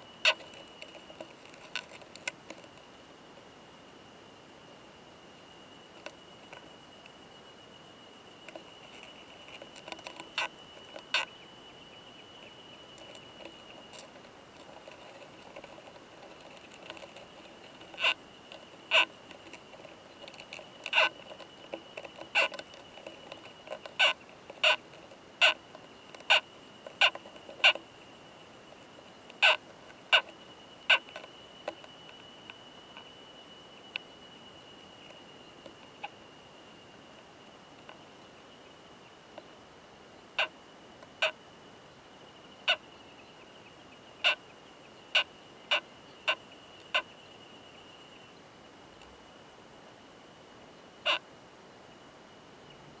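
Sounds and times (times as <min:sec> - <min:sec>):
faint steady high tone: 0:00.0 - 0:50.9.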